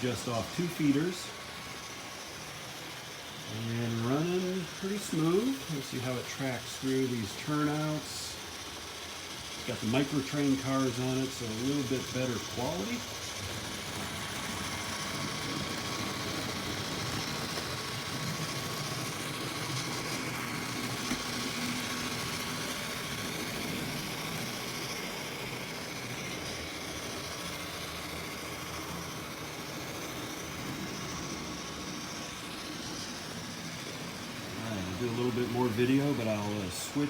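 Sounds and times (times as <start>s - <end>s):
model train diesel engine sound: 0.0s - 37.0s
model train motor and wheels: 0.0s - 37.0s.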